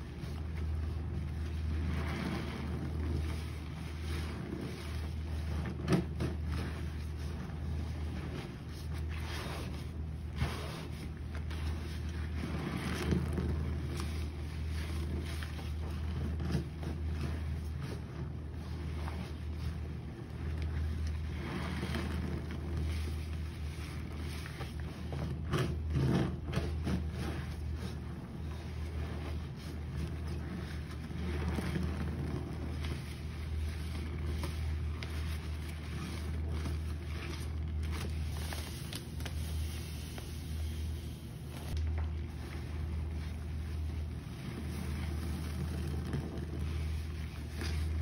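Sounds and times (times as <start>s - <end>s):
sponge squelching: 0.0s - 48.0s
steady low hum: 0.0s - 48.0s.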